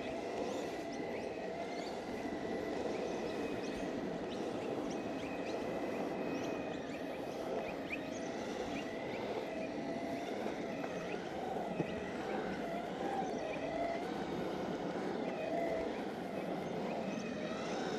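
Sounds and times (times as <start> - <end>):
electric motor whine: 0.0 - 17.9
skateboard wheels rolling on asphalt: 0.0 - 17.9.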